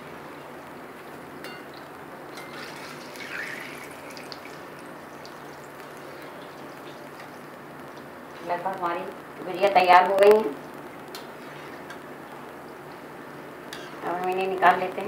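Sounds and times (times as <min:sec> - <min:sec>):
oil sizzling and bubbling: 0:00.0 - 0:08.4, 0:10.5 - 0:14.9.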